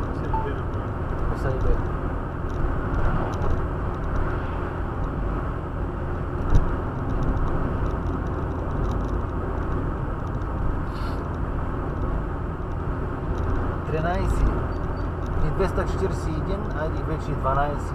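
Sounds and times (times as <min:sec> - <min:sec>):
road and engine noise inside car: 0:00.0 - 0:17.9.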